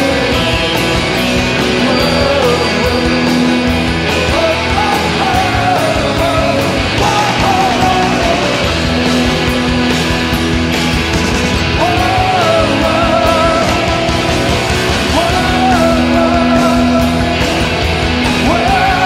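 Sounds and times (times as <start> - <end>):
rock music with guitars and drums: 0.0 - 19.0.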